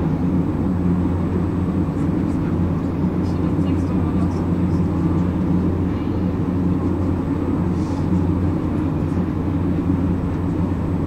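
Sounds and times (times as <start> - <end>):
constant hum: 0.0 - 11.0
train low rumble: 0.0 - 11.0.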